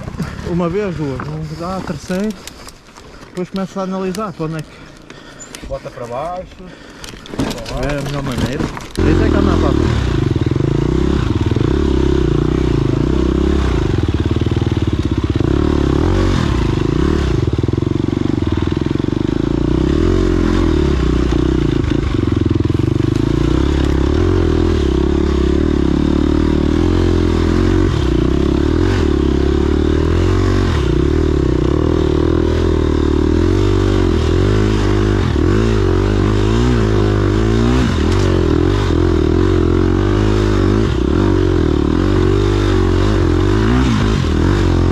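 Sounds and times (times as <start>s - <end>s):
motorcycle engine revving: 3.5s - 44.9s.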